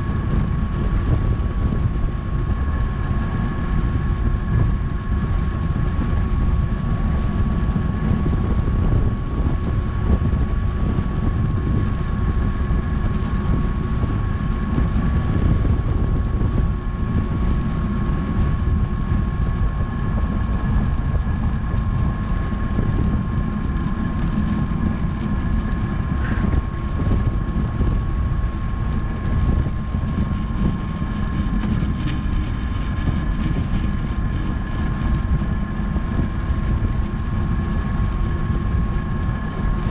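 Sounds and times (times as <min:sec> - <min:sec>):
thin steady whine: 0:00.0 - 0:39.9
wind rushing over microphone: 0:00.0 - 0:39.9.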